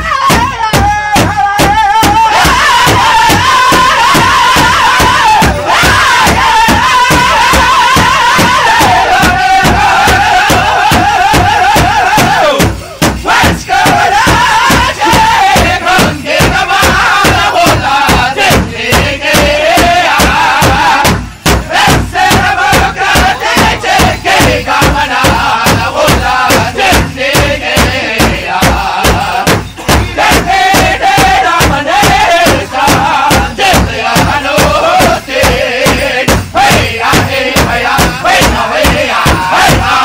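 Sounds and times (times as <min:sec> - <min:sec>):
group singing in high voices: 0:00.0 - 0:40.0
large drum beating: 0:00.0 - 0:40.0.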